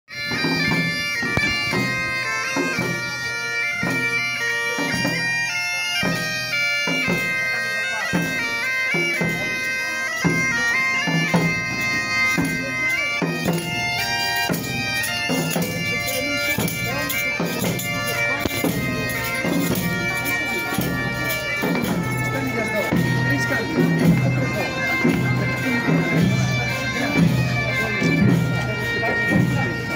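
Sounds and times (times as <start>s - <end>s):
drum beating: 0.1s - 5.4s, 6.0s - 29.9s
bagpipe melody with drone: 0.1s - 29.9s.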